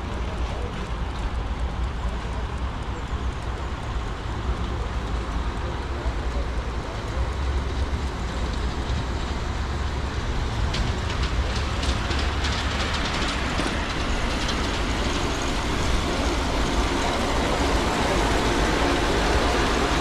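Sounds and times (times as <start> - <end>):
train wheels clicking over rail joints: 0.0 - 20.0.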